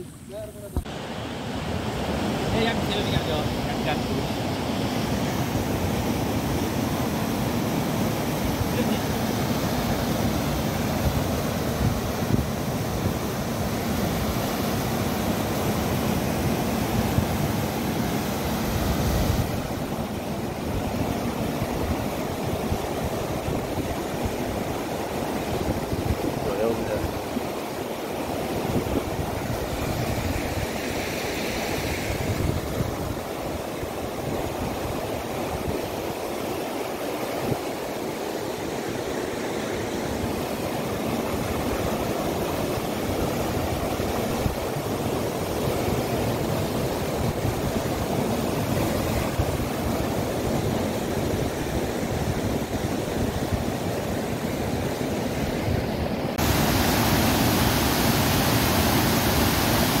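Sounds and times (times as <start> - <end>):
river rushing over rocks: 0.0 - 60.0.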